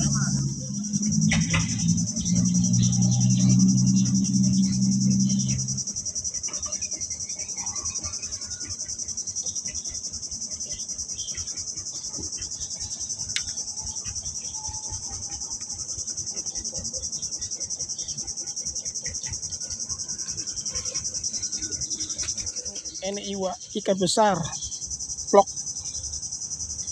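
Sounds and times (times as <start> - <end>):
insects shrilling: 0.0 - 26.9.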